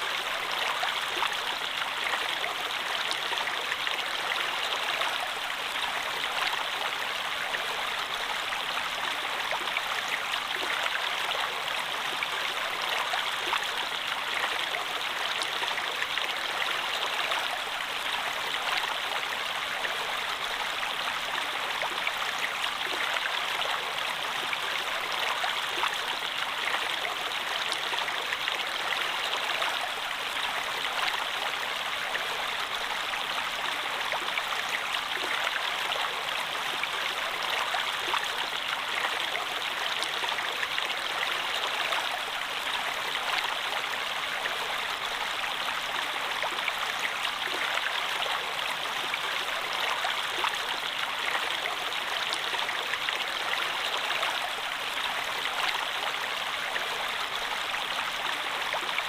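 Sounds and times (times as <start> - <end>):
stream of flowing water: 0.0 - 59.0.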